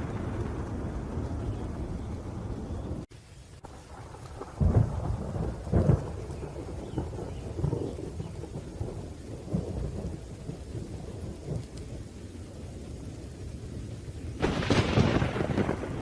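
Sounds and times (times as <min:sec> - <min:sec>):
sharp thunderclap: 0:00.0 - 0:03.1, 0:03.7 - 0:11.8, 0:14.4 - 0:16.0
low thunder rumble: 0:00.0 - 0:16.0
rain: 0:00.0 - 0:16.0.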